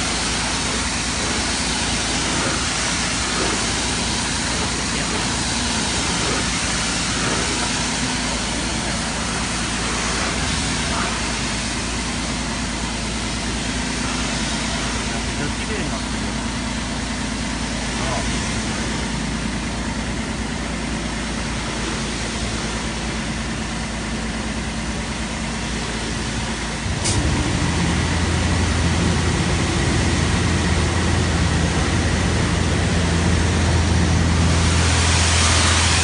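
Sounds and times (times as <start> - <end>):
car wash machine running: 0.0 - 36.0.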